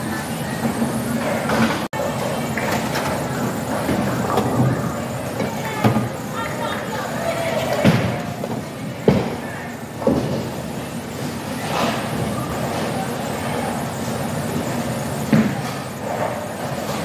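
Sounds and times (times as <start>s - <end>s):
bowling alley background din: 0.0s - 17.0s.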